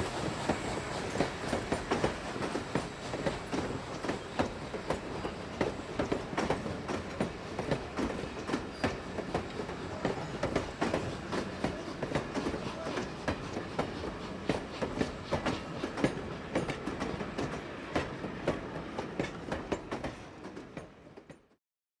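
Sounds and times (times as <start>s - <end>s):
train wheels clattering over rail joints: 0.0s - 21.6s.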